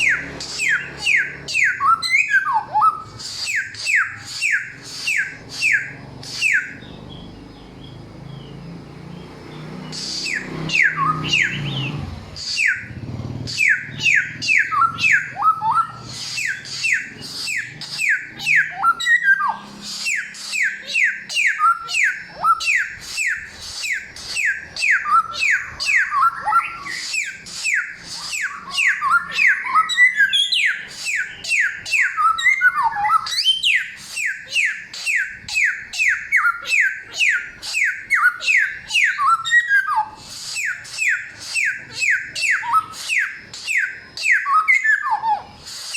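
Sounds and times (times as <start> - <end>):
songbird singing whistled notes: 0.0 - 45.9.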